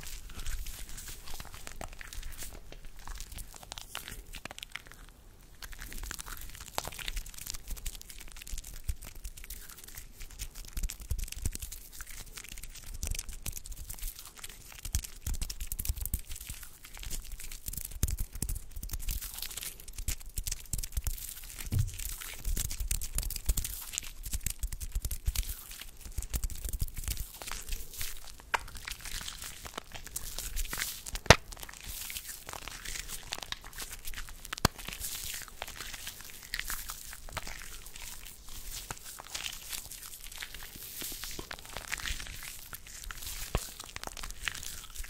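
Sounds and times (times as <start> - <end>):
skin rubbing and rustling: 0.0 - 45.0
small crackles and clicks: 0.0 - 45.0.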